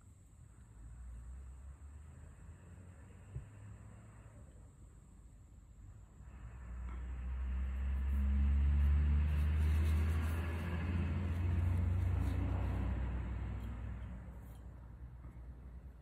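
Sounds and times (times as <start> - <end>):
passing motor vehicle rumble: 0.5 - 16.0.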